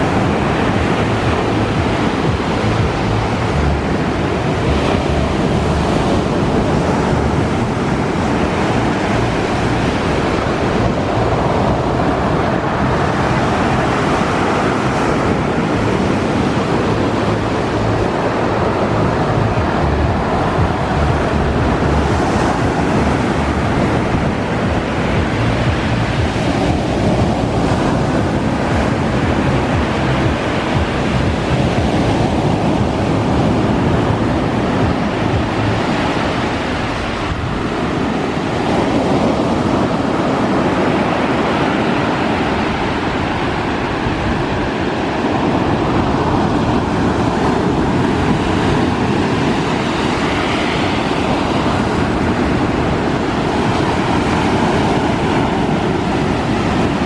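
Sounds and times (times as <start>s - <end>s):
sea surf crashing: 0.0s - 57.0s
wind buffeting microphone: 0.0s - 57.0s.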